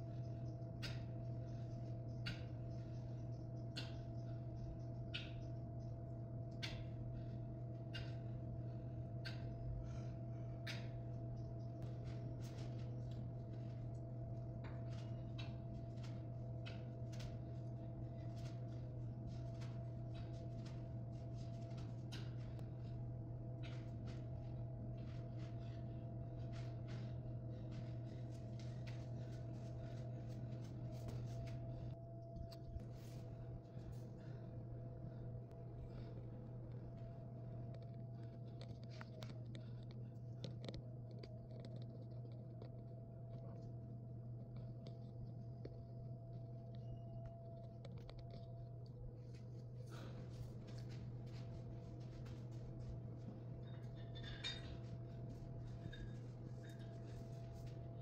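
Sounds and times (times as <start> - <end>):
low room hum: 0.0 - 58.0.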